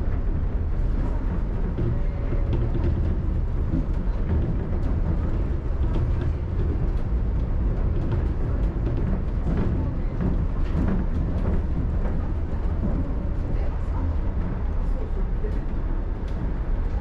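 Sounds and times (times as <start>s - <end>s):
monorail train rumbling: 0.0s - 17.0s.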